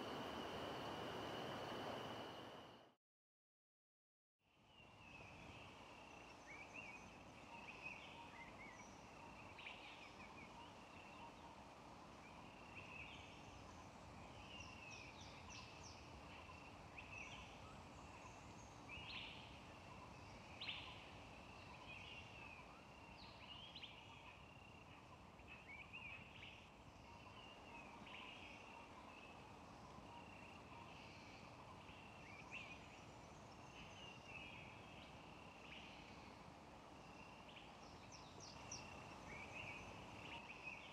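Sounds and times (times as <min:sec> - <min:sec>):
low steady hiss: 0:00.0 - 0:02.8, 0:04.5 - 0:40.9.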